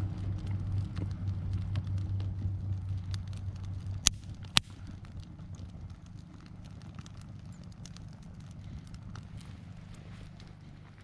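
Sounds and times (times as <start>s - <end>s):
campfire crackling and popping: 0.0s - 11.0s
low rumble: 0.0s - 11.0s.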